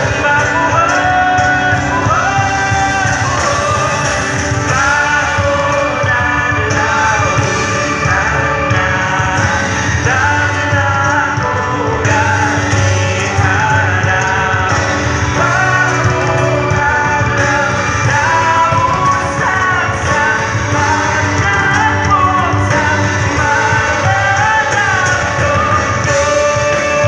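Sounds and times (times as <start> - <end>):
live band playing pop song: 0.0 - 27.0
person singing: 0.0 - 27.0.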